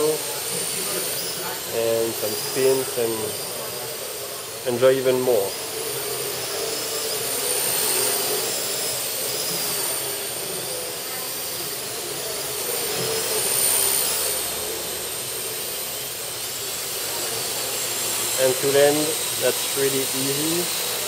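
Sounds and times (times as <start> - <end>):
drone propellers whirring: 0.0 - 21.0.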